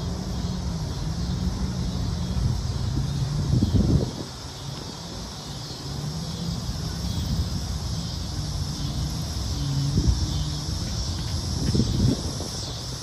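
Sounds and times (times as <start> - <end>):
insects chirping: 0.0 - 13.0
traffic rumble: 0.0 - 13.0
wind rumble: 0.0 - 13.0.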